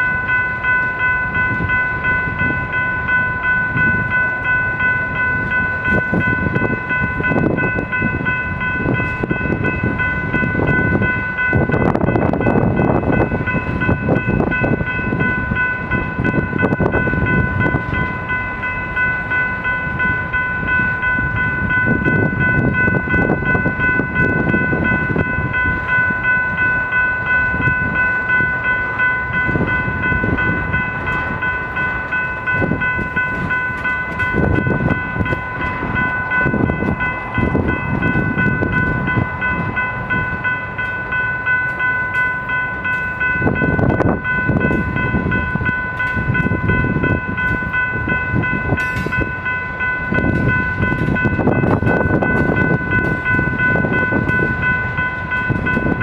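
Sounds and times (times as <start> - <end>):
train wheels rumbling over rails: 0.0 - 56.0.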